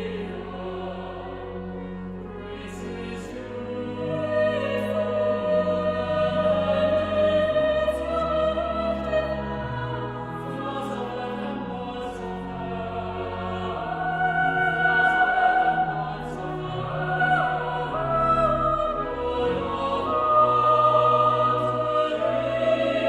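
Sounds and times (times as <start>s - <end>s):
choir singing a slow hymn: 0.0s - 23.0s.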